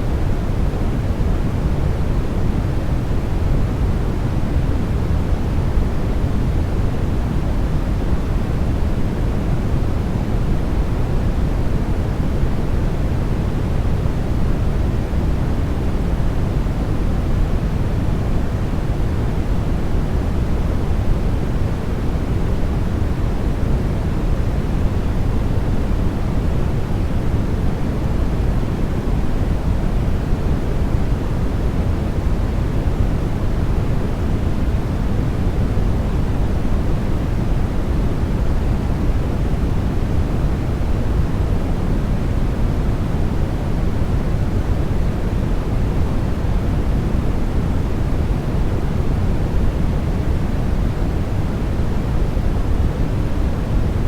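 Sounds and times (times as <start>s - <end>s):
deep white noise hiss: 0.0s - 54.0s.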